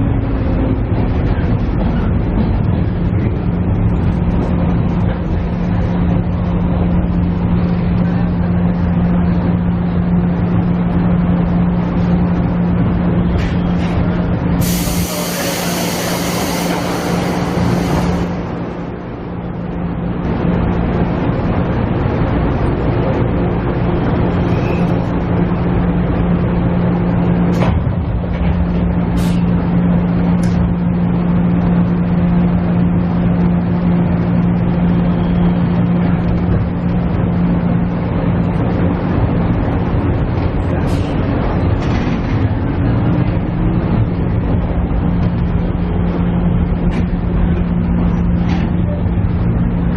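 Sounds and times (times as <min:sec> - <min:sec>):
diesel engine humming: 0:00.0 - 0:49.9.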